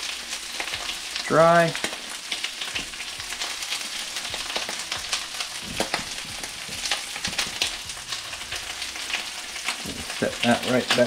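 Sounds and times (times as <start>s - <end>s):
asparagus frying: 0.0s - 11.0s
butter and oil sizzling in pan: 0.0s - 11.0s.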